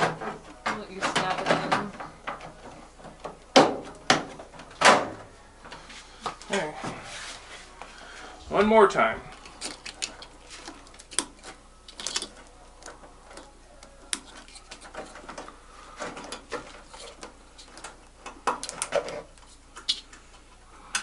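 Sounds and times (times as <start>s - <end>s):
wires rustling: 0.0s - 21.0s.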